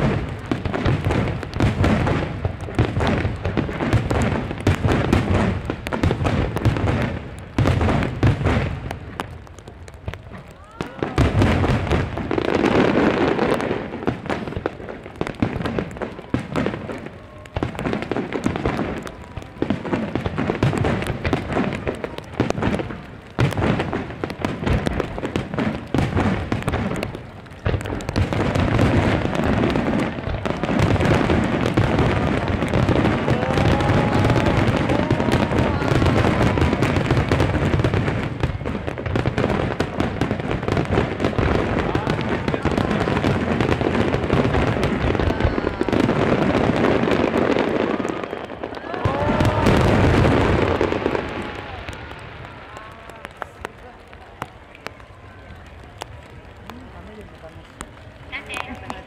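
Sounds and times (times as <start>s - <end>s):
fireworks bursting with booms: 0.0s - 59.0s.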